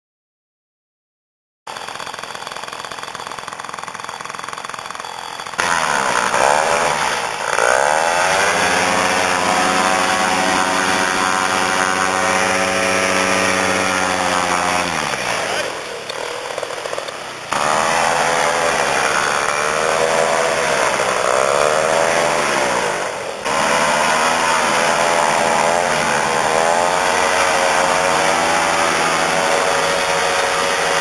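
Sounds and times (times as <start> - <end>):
two-stroke engine running: 1.7 - 31.0.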